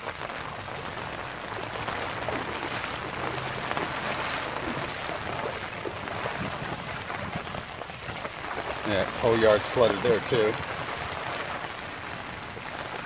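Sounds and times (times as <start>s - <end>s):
heavy rain on flooded street: 0.0s - 13.0s.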